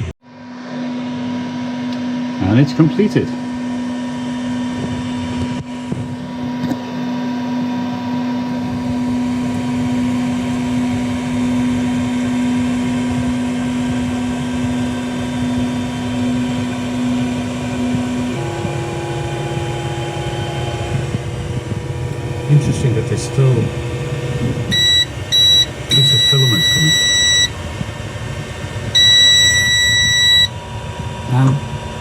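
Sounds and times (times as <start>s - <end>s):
printer droning hum: 0.0s - 32.0s
fan hiss: 0.8s - 32.0s.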